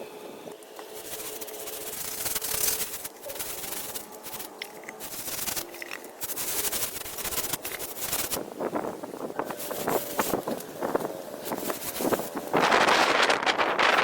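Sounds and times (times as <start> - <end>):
scraping and rubbing: 0.8 - 14.0.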